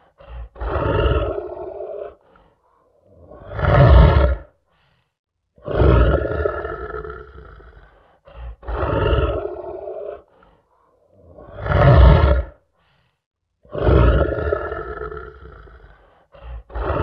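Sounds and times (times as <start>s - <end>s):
lion roaring: 0.0s - 4.5s, 5.6s - 12.6s, 13.6s - 17.0s
lion grunt: 0.0s - 4.6s, 5.6s - 12.6s, 13.6s - 17.0s.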